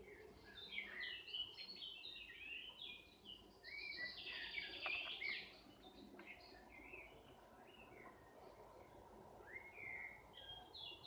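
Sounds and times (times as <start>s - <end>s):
songbird chirps and whistles: 0.0s - 8.2s, 9.4s - 11.0s.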